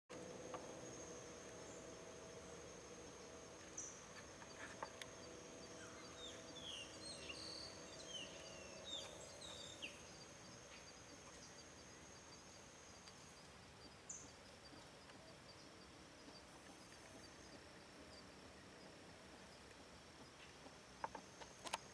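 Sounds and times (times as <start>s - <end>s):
high-pitched insect trill: 0.2s - 20.1s
small bird chirping: 0.5s - 19.6s.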